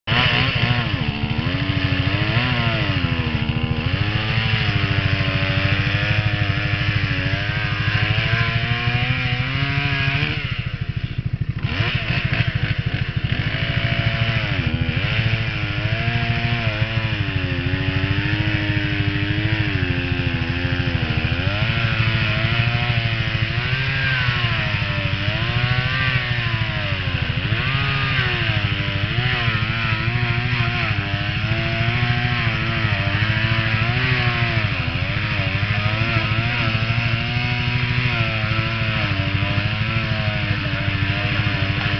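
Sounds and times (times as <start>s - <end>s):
chainsaw cutting log: 0.0s - 41.9s.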